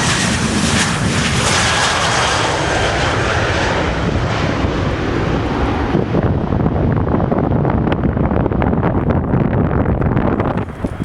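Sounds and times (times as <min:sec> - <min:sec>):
jet airliner passing: 0:00.0 - 0:11.0
wind buffeting microphone: 0:00.0 - 0:11.0.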